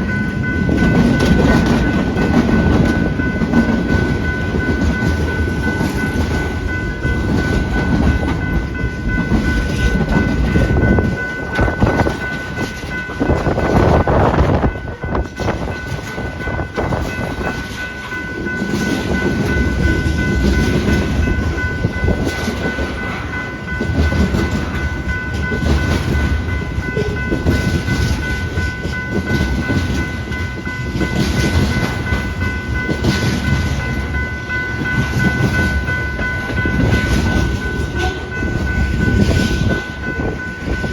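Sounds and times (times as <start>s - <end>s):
freight train cars clattering: 0.0s - 40.9s
wind buffeting microphone: 0.0s - 40.9s.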